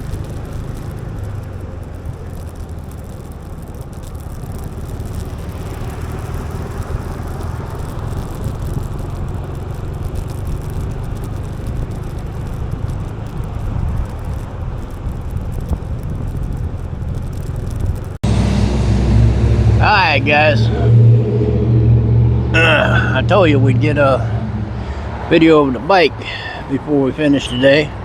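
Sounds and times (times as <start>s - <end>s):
deep engine rumble: 0.0s - 28.0s
road and wind noise: 0.0s - 28.0s
scooter engine hum: 0.0s - 28.0s.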